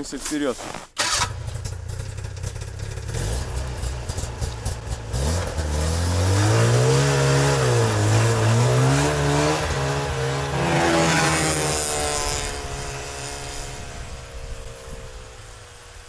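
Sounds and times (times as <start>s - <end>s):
snowmobile engine revving: 1.0s - 16.0s.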